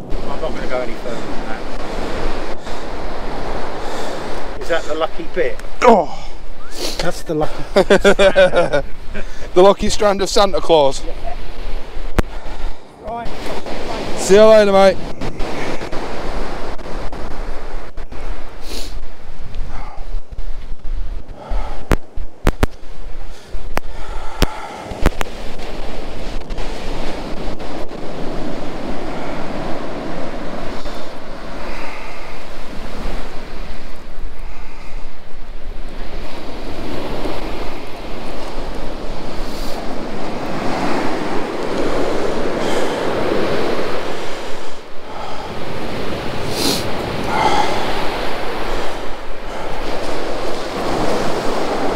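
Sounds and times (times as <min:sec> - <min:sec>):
waves breaking on beach: 0:00.0 - 0:51.9
wind buffeting microphone: 0:00.0 - 0:51.9.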